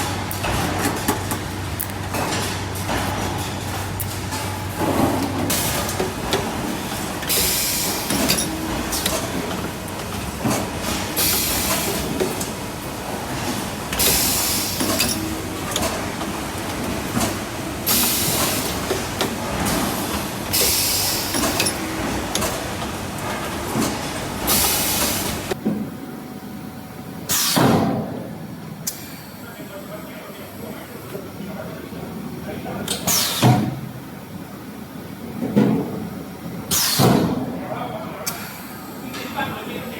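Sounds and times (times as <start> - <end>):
production line machinery running: 0.0 - 39.9.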